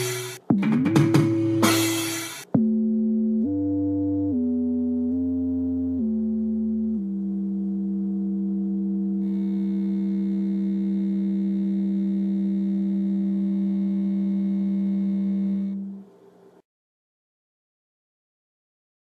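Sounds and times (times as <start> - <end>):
higher synthesizer layer: 0.0 - 16.0
low synthesizer note: 0.0 - 16.0.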